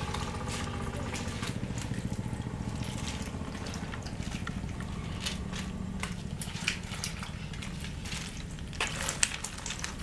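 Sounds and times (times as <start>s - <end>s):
splashes in muddy water: 0.0s - 9.6s
steady low hum: 0.0s - 10.0s.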